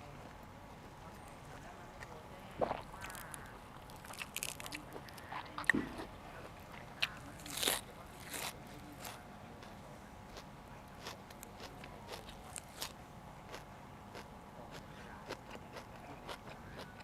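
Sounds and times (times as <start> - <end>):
crunchy vegetables being chewed: 0.0 - 17.0.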